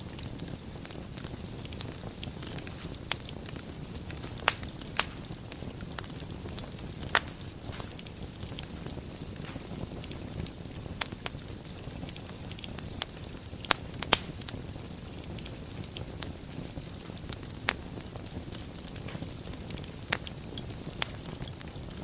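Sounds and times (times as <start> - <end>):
fire crackles and pops: 0.0 - 22.0
fire rumbling in fireplace: 0.0 - 22.0.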